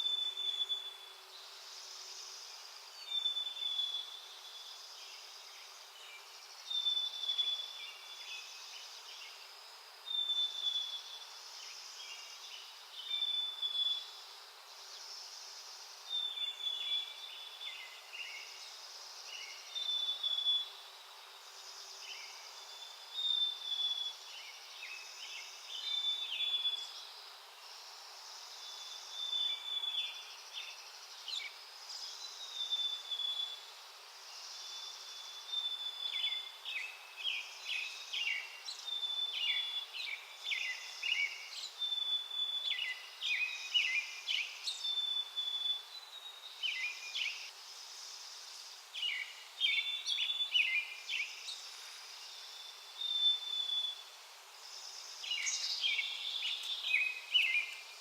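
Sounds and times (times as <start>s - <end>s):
outdoor hiss: 0.0s - 58.0s
songbird singing: 0.0s - 58.0s.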